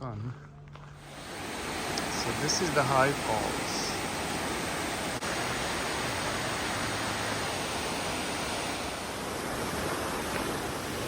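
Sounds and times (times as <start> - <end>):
waterfall roaring: 1.0 - 11.0.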